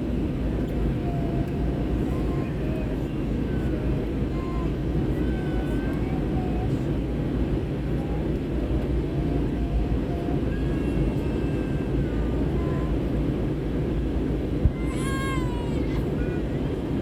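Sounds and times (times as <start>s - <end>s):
jet engine and airflow rumble: 0.0s - 17.0s.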